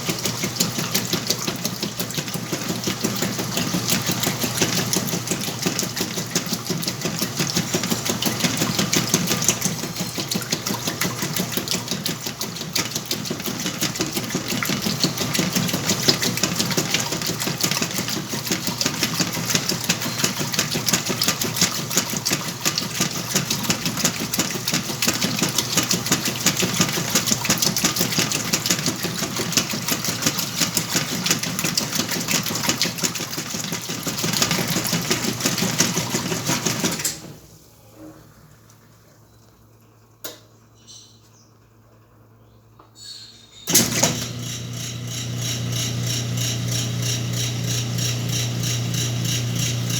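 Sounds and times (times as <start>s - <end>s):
washing machine clattering: 0.0s - 37.5s, 43.7s - 49.9s.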